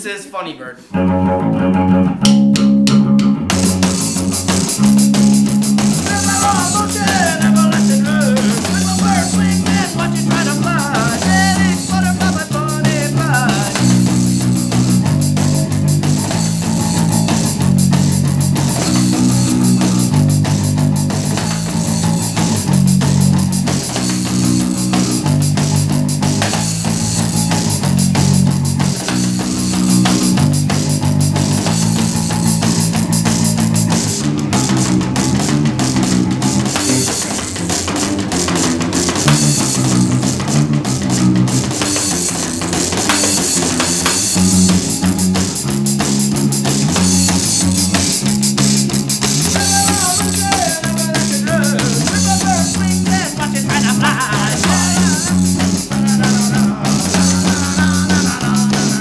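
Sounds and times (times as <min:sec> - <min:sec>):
lead guitar line: 0:00.0 - 0:59.0
rock band playing: 0:00.0 - 0:59.0.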